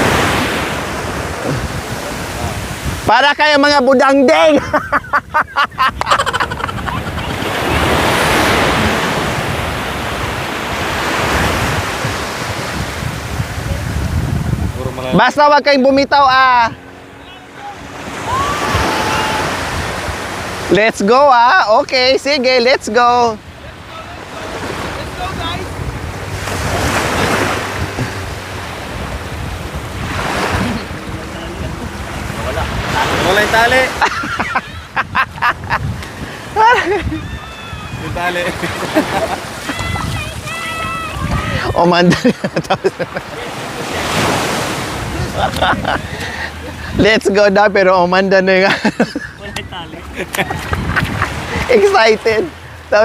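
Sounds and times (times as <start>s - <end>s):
wind buffeting microphone: 0.0s - 20.7s, 21.8s - 47.4s, 48.9s - 53.0s
sea surf washing: 0.0s - 53.0s.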